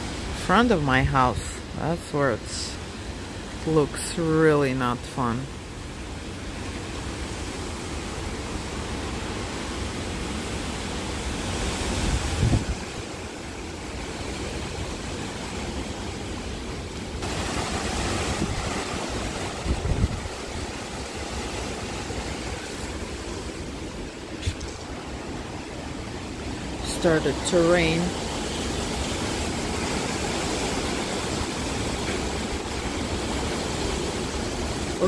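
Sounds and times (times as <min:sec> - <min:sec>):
hurricane wind gusting: 0:00.0 - 0:35.0
rain: 0:00.0 - 0:35.0.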